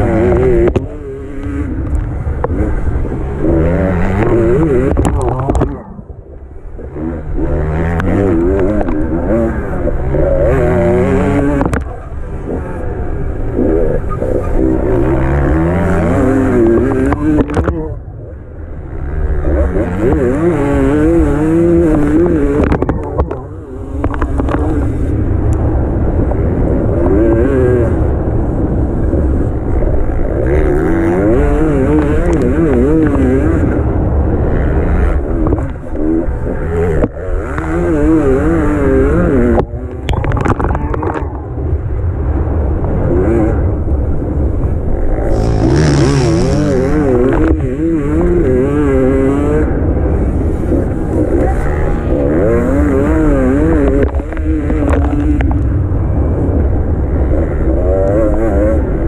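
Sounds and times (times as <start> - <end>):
dirt bike engine revving: 0.0 - 41.8, 42.5 - 59.0.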